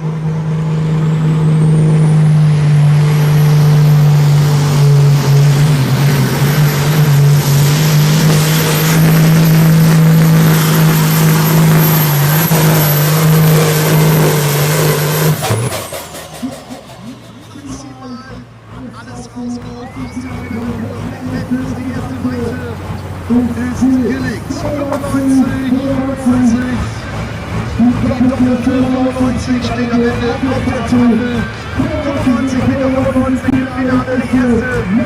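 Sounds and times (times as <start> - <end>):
high engine whine: 0.0 - 35.0
tractor diesel engine running: 0.0 - 35.0.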